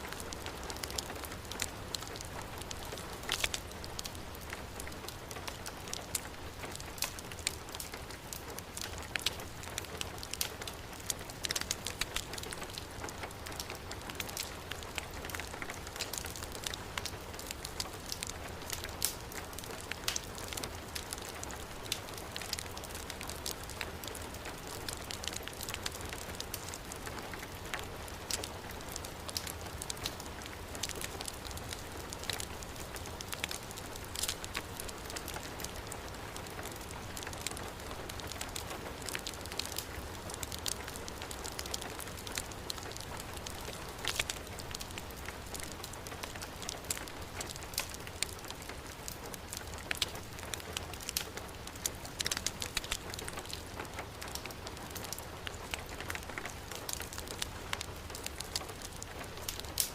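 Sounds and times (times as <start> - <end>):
heavy rain falling: 0.0 - 59.9
wood fire crackling and popping: 0.0 - 59.9.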